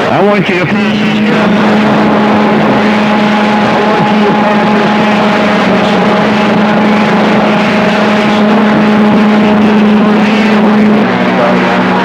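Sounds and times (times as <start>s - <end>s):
muffled radio transmission: 0.0s - 12.0s
radio static: 0.0s - 12.0s
low humming tone: 0.9s - 12.0s.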